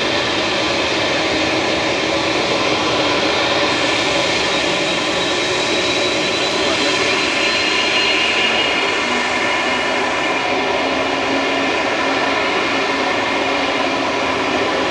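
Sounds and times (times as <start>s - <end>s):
jet engines taxiing: 0.0s - 14.9s.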